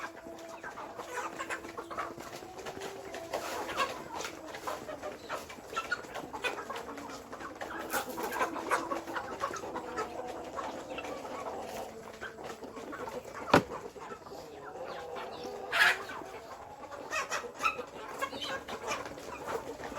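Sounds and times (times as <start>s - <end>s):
chickens clucking: 0.0s - 19.9s
drawn-out hen calls: 0.0s - 19.9s.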